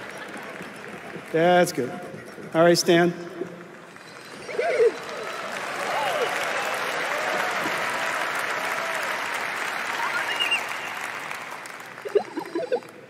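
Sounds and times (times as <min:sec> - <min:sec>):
audience applauding: 0:00.0 - 0:02.3, 0:03.7 - 0:13.0.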